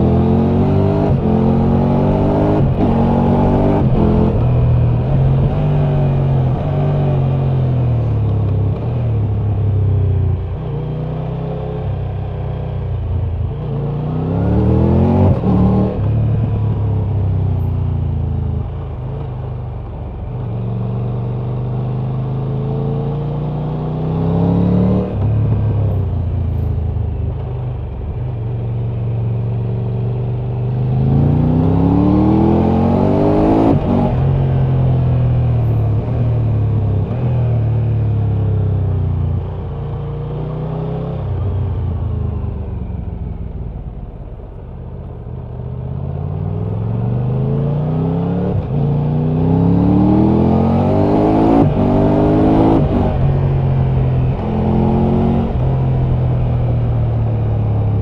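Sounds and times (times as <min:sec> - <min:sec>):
motorcycle engine accelerating hard: 0:00.0 - 0:58.0.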